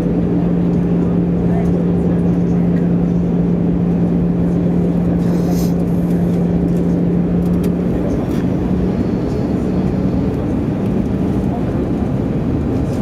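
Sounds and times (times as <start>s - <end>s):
constant low hum: 0.0s - 13.0s
jet engine drone: 0.0s - 13.0s.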